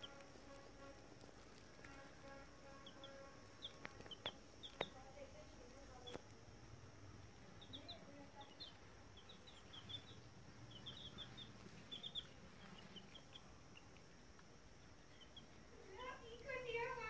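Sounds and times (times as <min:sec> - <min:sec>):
baby chicks peeping: 0:00.0 - 0:06.4, 0:07.1 - 0:17.0.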